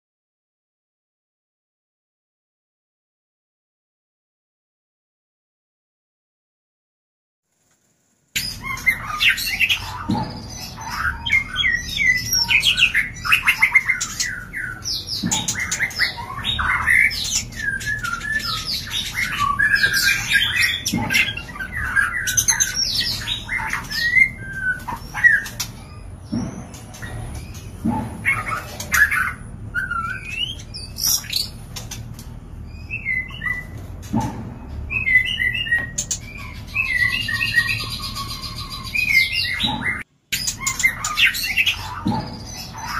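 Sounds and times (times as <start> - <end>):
birds whistling and chattering: 8.4 - 42.9.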